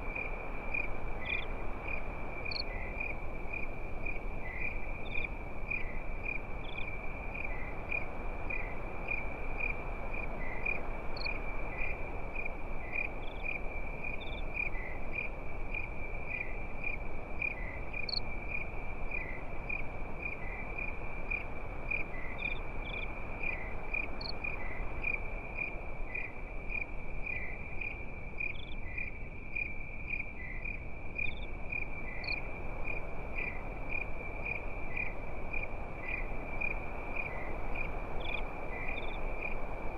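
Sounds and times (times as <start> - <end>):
crickets chirping: 0.0 - 39.9
low even hiss: 0.0 - 39.9.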